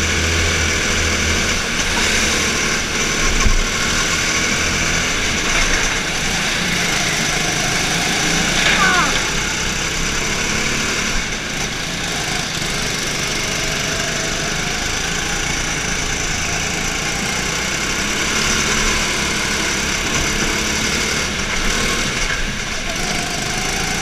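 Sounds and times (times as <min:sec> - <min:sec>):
go-kart engine running: 0:00.0 - 0:24.0.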